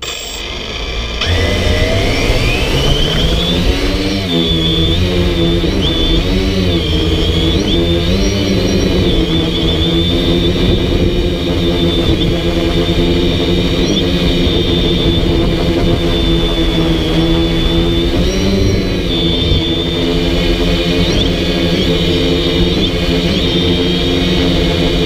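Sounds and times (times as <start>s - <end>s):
low rumbling noise: 0.0s - 25.0s
quadcopter propellers whining: 0.0s - 25.0s.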